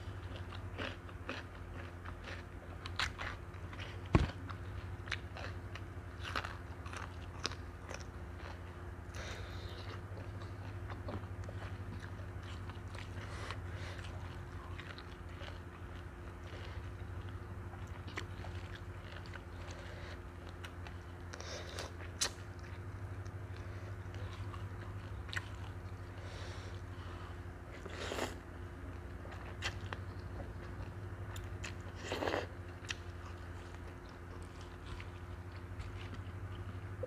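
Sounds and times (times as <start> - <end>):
chewing and crunching: 0.0 - 37.0
steady low hum: 0.0 - 37.0.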